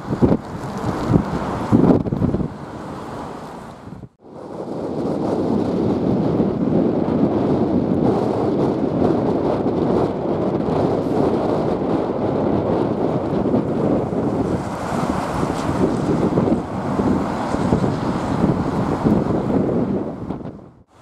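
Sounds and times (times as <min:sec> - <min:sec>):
jet airliner rumble overhead: 0:00.0 - 0:21.0
wind buffeting microphone: 0:00.0 - 0:21.0.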